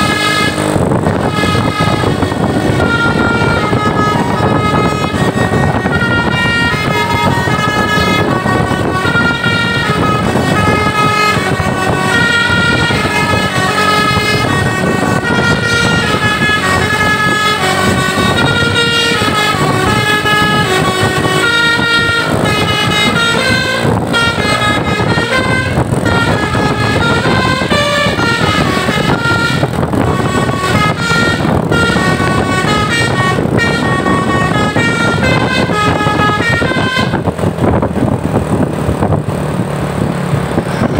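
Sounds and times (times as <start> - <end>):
multi-tone air horn tune: 0.0 - 38.2
bus engine running: 0.0 - 40.9
road noise: 0.0 - 40.9.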